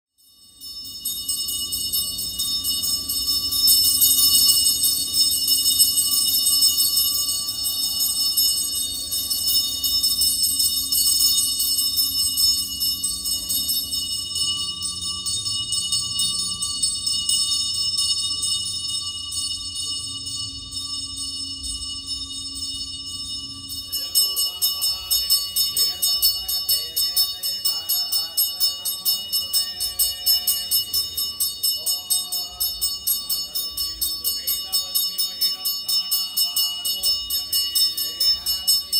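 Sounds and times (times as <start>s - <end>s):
hand bell ringing rapidly: 0.1s - 38.9s.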